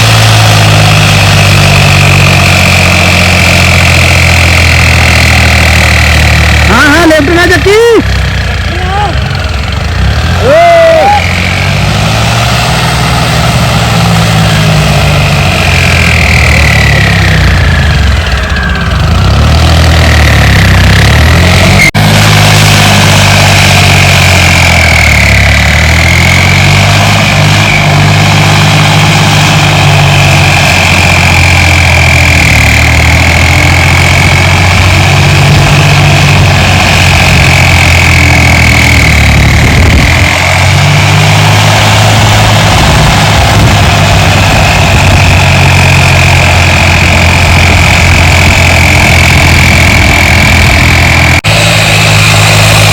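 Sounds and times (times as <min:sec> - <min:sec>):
tractor diesel engine running: 0:00.0 - 0:52.9
turbo whine: 0:00.0 - 0:52.9.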